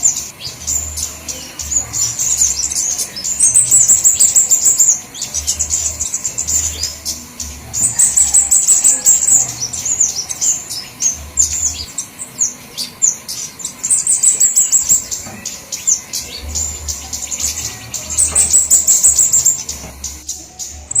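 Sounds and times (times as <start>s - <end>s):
high-pitched bird chip calls: 0.0s - 21.0s.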